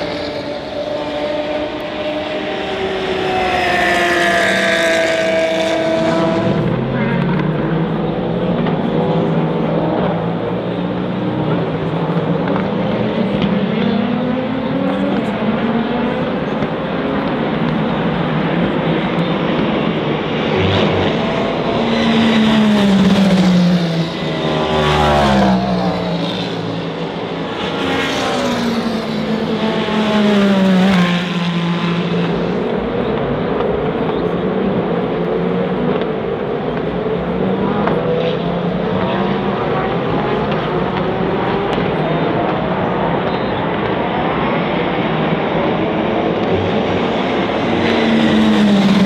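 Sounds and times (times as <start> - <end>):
race cars passing: 0.0 - 49.0.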